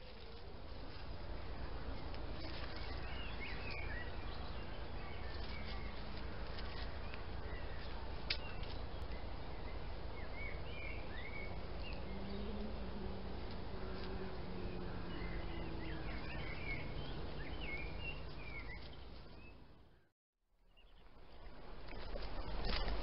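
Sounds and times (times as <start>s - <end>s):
birds chirping: 0.0s - 20.1s
low hum and hiss: 0.0s - 20.1s.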